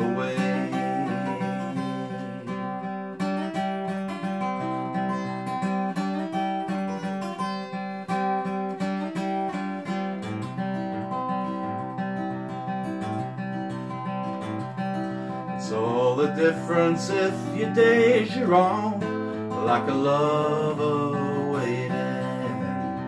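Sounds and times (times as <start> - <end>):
acoustic guitar strummed and picked: 0.0 - 23.0.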